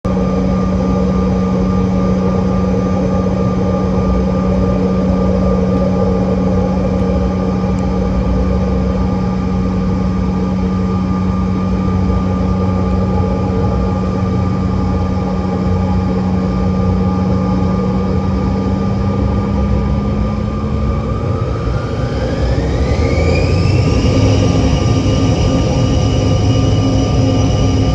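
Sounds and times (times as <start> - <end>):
jet engines humming and whining: 0.1 - 27.9.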